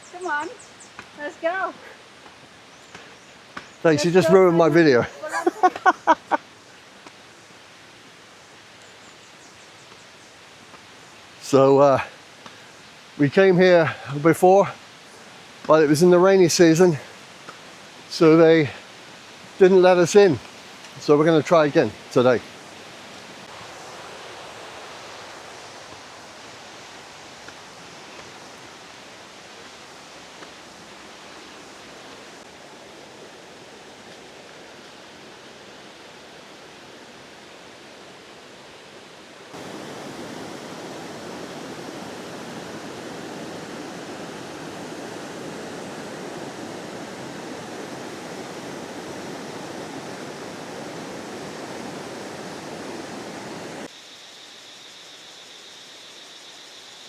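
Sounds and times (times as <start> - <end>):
flowing water rushing: 0.0 - 8.8, 10.4 - 53.9.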